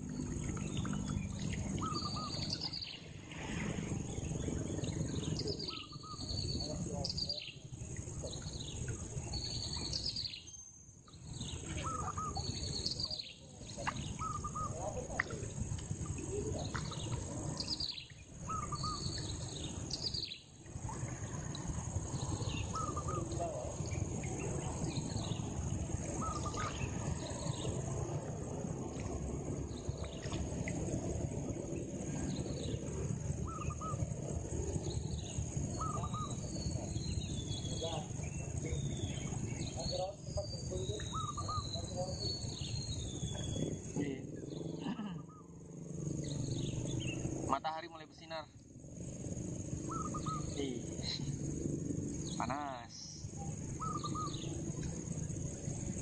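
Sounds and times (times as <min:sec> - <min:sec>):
high insect drone: 0:00.0 - 0:56.0
low rushing background noise: 0:00.0 - 0:56.0
steady low rumble: 0:00.0 - 0:56.0
birds chirping: 0:00.1 - 0:03.1, 0:04.0 - 0:27.8, 0:29.6 - 0:56.0.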